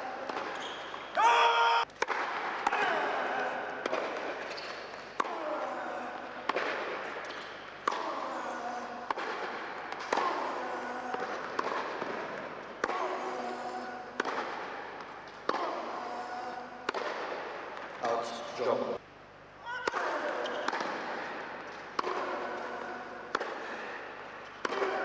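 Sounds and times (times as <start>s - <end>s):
racket hitting tennis ball: 0.2s - 1.2s, 2.0s - 5.6s, 6.4s - 16.2s, 16.8s - 18.0s, 19.8s - 25.0s.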